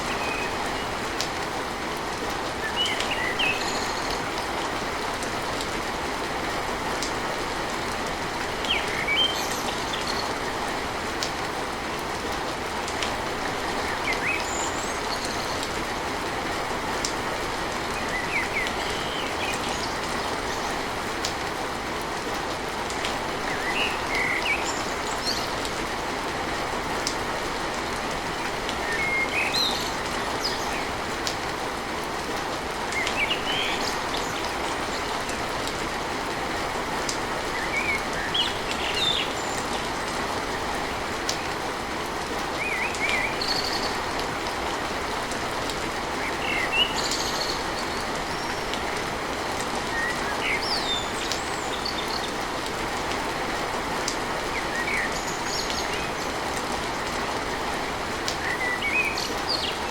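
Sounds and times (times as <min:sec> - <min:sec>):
rain drumming on a tin roof: 0:00.0 - 0:59.9.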